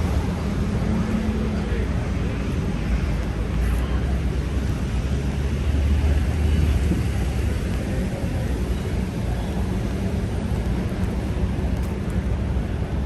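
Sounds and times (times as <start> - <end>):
low rumble of city traffic: 0.0 - 13.0
street noise: 0.0 - 13.0.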